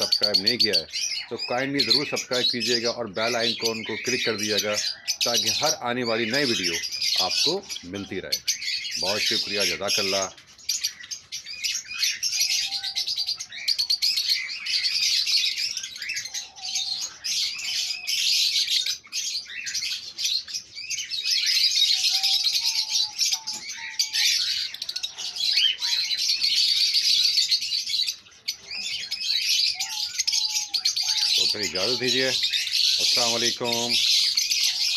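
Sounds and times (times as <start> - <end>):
lovebirds chirping: 0.0 - 34.9.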